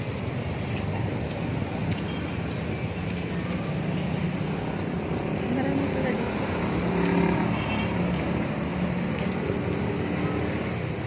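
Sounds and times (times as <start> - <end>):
street traffic noise: 0.0 - 11.0
vehicle engine running nearby: 0.0 - 11.0.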